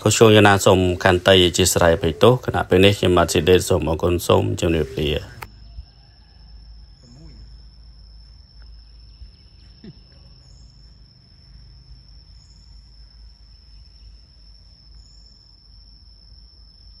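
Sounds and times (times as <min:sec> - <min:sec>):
insects high-pitched drone: 0:00.0 - 0:17.0.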